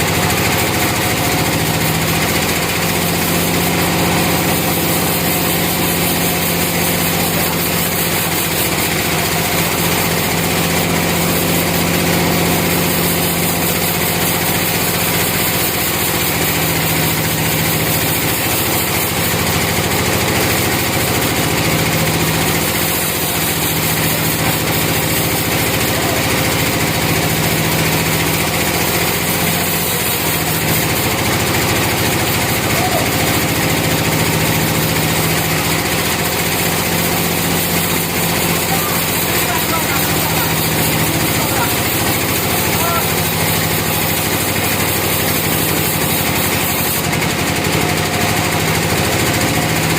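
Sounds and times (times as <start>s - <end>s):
small petrol engine running: 0.0s - 49.9s.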